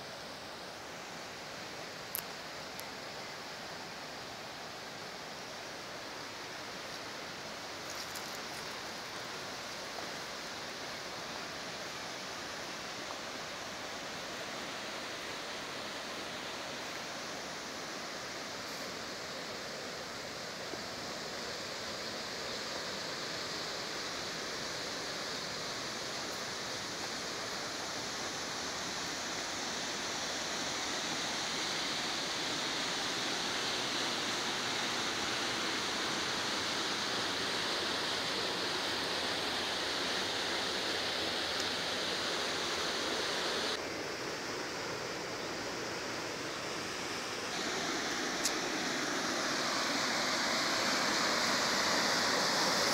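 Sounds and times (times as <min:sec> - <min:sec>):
river water rushing and splashing: 0:00.0 - 0:52.9.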